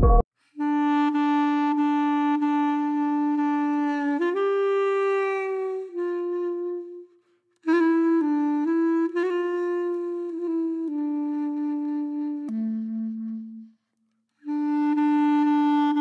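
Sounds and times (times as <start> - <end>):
solo woodwind melody: 0.4 - 16.0.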